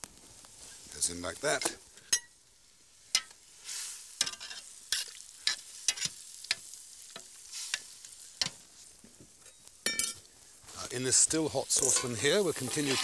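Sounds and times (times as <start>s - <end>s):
faint frying sizzle: 0.0s - 13.0s.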